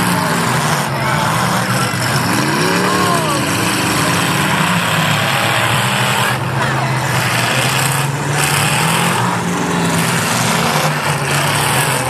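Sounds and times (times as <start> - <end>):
car engines running hard: 0.0 - 12.0
crowd chatter: 0.0 - 12.0.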